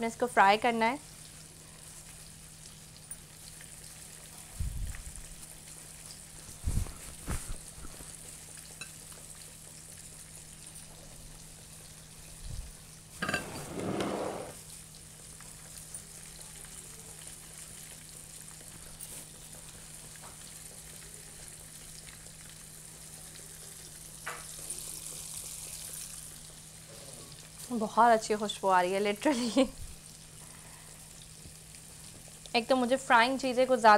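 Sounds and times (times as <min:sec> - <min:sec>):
fish frying in hot oil: 0:00.0 - 0:13.4, 0:14.5 - 0:33.9.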